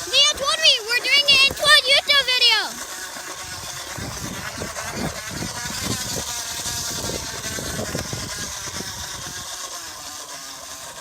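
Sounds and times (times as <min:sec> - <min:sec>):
plastic bottle rattling against bicycle tyre: 0:00.0 - 0:11.0.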